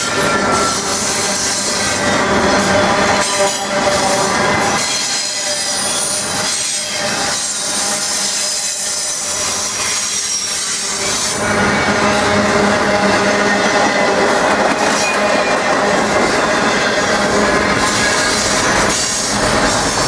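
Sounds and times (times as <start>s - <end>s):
high wheel squeal: 0.0s - 20.0s
train wheels rumbling on rails: 0.0s - 20.0s.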